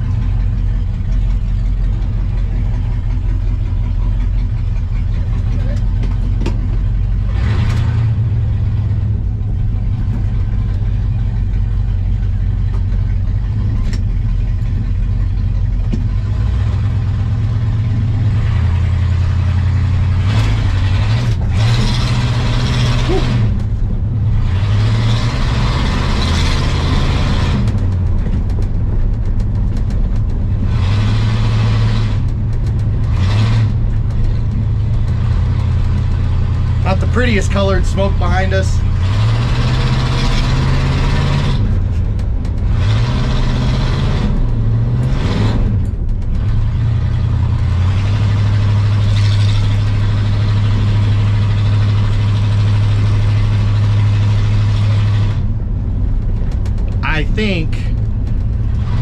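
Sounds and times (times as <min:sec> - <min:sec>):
pickup truck engine revving: 0:00.0 - 0:29.2, 0:29.8 - 0:59.0.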